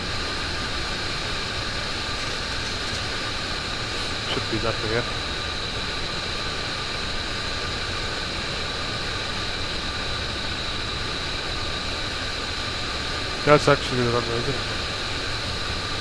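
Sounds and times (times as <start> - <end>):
aircraft cockpit rushing hiss: 0.0 - 16.0
steady high whine: 0.0 - 16.0.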